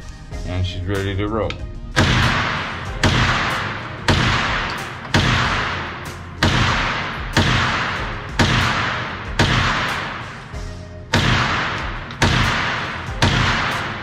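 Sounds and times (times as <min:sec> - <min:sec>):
carbine shots echoing indoors: 0:02.0 - 0:14.0.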